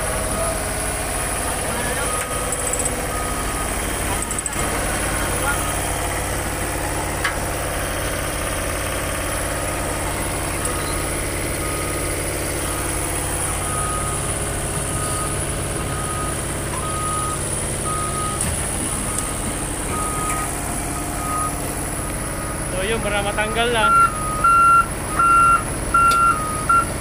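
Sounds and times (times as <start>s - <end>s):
diesel engine idling: 0.0s - 27.0s
reversing alarm beeping: 0.1s - 27.0s.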